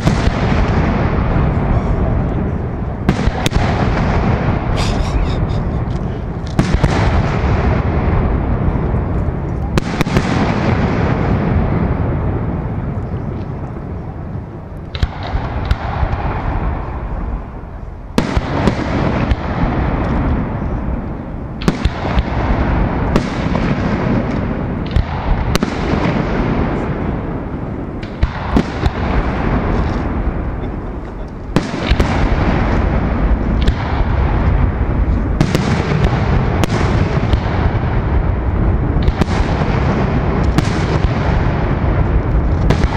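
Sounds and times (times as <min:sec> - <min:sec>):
fireworks sharp bangs: 0:00.0 - 0:42.9
rumble of echoing booms: 0:00.0 - 0:42.9.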